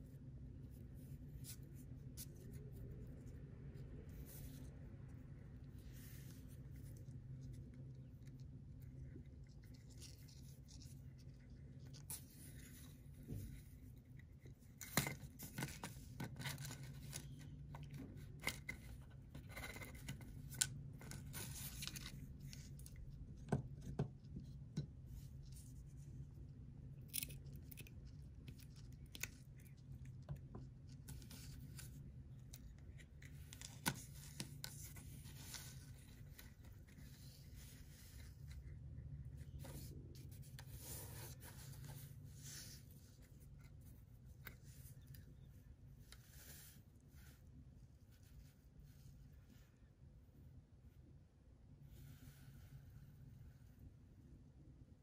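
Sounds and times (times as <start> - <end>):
fishing line rustling and scraping: 0.0 - 49.9.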